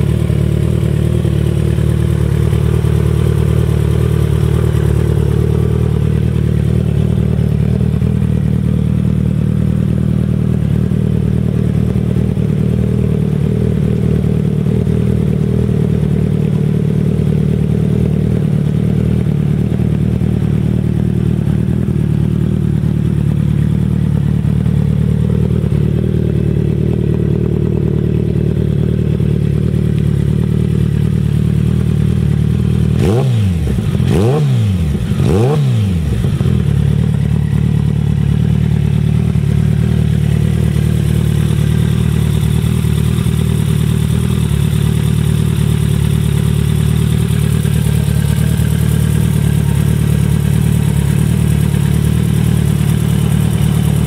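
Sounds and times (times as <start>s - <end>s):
motorcycle engine idling: 0.0s - 54.0s
motorcycle throttle blips: 0.0s - 54.0s.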